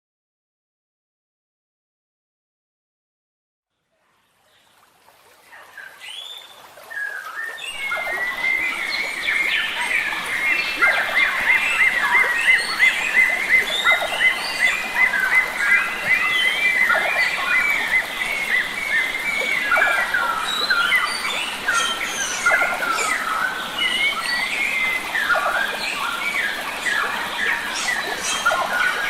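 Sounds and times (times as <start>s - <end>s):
stream water rushing: 4.5s - 29.0s
wild birds singing: 5.5s - 29.0s.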